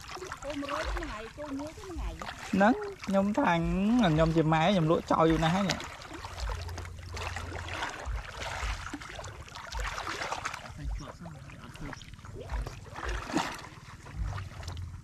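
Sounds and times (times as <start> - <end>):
water splashing and sloshing: 0.0 - 15.0
dull low thumps: 0.5 - 15.0.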